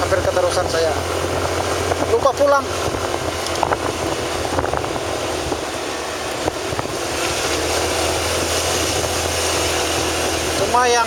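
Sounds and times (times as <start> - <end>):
vehicle engine hum: 0.0 - 11.0
wind rushing over microphone: 0.0 - 11.0.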